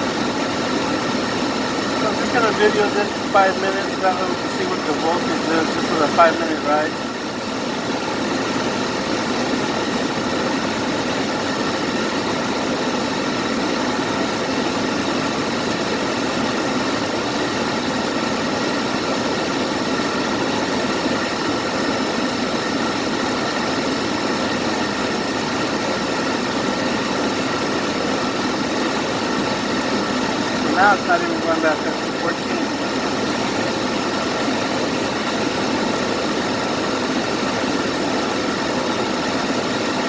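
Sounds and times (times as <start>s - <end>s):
faint steady whining tones: 0.0s - 40.0s.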